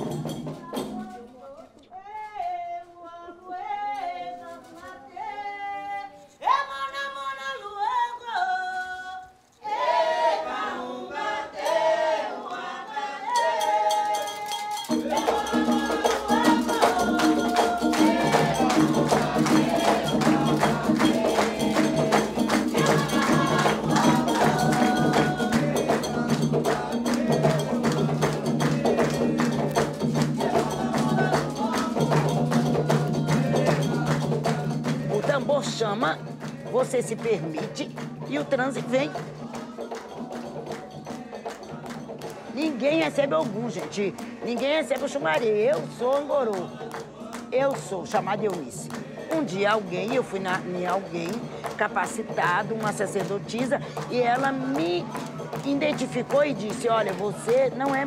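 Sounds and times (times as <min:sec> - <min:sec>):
drums and percussion: 0:00.0 - 0:03.0, 0:09.8 - 0:58.0
voices singing a chant: 0:08.4 - 0:58.0.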